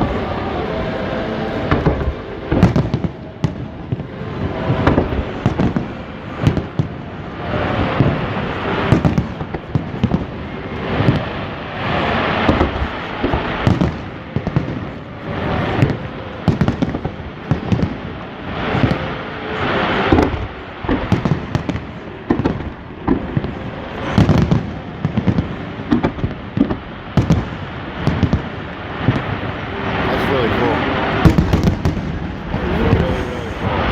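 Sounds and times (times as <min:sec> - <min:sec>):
fireworks bursting with bangs: 0:00.0 - 0:33.9.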